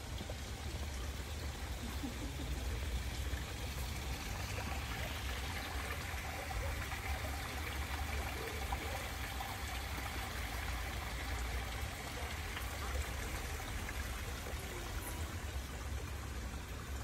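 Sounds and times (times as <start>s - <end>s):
waterfall splashing into a pond: 0.0s - 17.0s.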